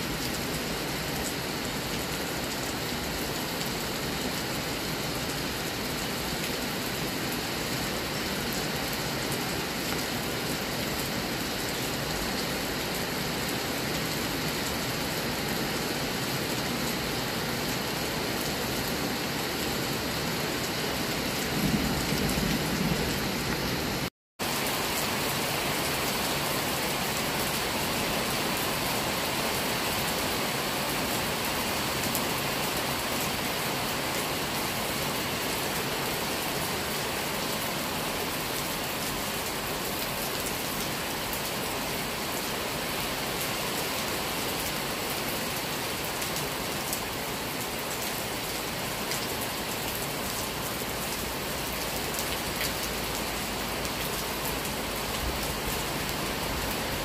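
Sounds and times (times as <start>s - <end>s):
rain falling on trees: 0.0s - 57.0s.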